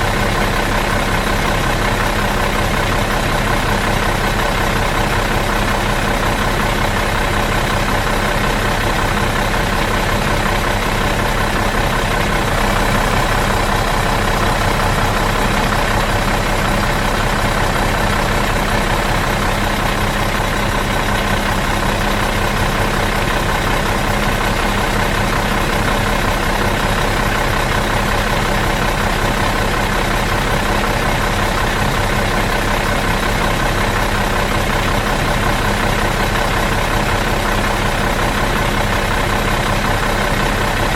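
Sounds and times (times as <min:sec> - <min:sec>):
diesel bus engine idling: 0:00.0 - 0:40.9.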